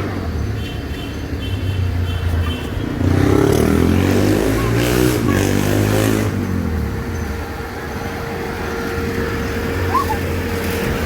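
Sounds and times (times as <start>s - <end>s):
engine passing by: 0.0s - 11.0s.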